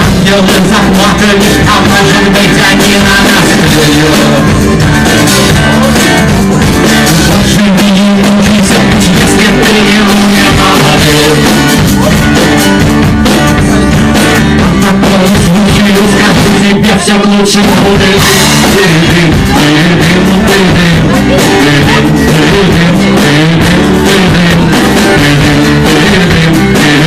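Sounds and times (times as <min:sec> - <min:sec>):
live rock band playing: 0:00.0 - 0:27.0.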